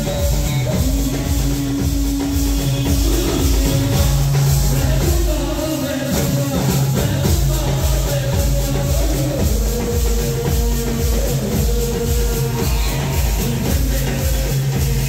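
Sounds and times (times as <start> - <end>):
band melody of long notes: 0.0 - 15.0
steady drum beat: 0.0 - 15.0.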